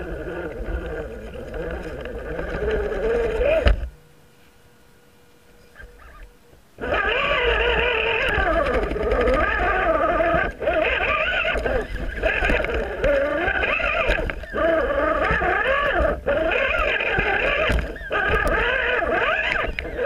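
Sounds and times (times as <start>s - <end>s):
electric motor and gearbox whining: 0.0s - 4.0s, 5.4s - 20.0s.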